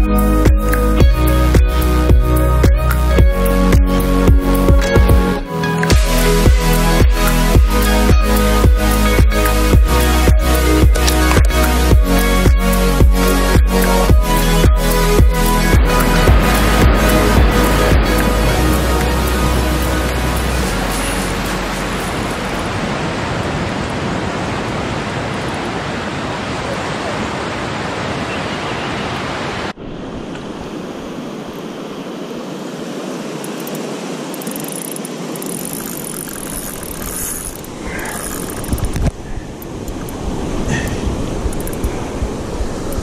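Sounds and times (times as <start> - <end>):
wind noise on microphone: 0.0 - 27.1, 29.5 - 43.0
waves washing onto a beach: 1.0 - 43.0.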